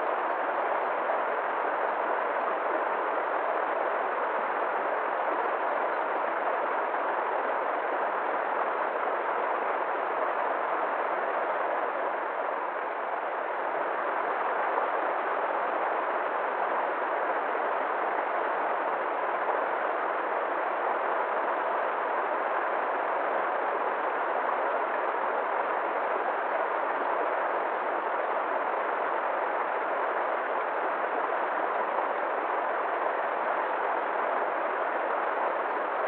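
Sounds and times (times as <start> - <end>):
river water rushing: 0.1 - 36.0.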